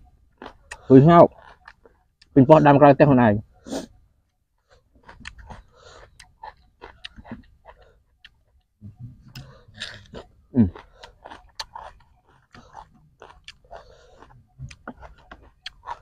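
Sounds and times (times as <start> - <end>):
chewing crunchy fruit: 0.3 - 2.6, 4.6 - 16.0.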